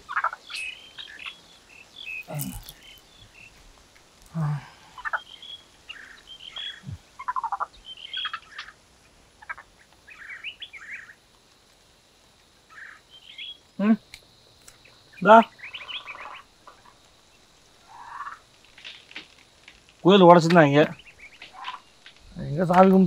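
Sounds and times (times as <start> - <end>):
birds chirping: 0.0 - 11.3, 12.6 - 23.0.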